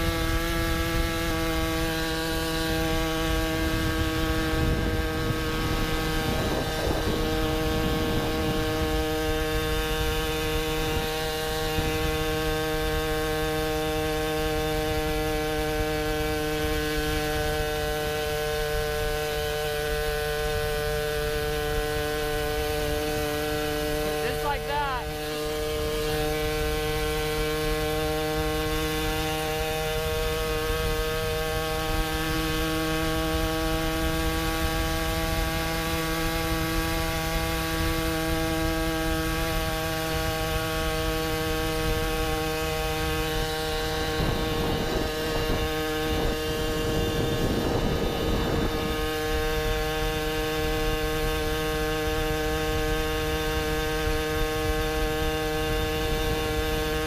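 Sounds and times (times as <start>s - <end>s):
moped two-stroke engine cruising: 0.0s - 57.0s
rougher engine noise: 0.0s - 57.0s.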